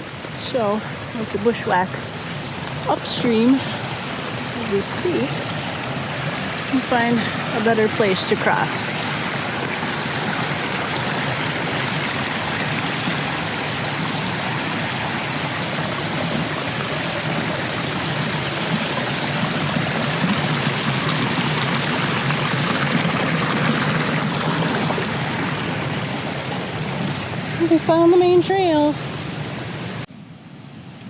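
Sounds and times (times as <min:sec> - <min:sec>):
flooded creek water rushing: 0:00.0 - 0:31.0.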